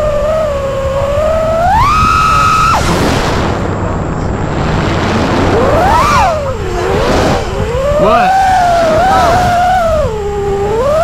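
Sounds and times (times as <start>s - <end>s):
drone motors whining: 0.0s - 11.0s
rushing wind noise: 0.0s - 11.0s.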